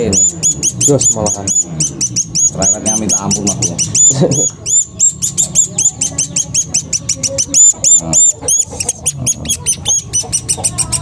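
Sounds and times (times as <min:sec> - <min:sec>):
young bird chirping: 0:00.0 - 0:11.0.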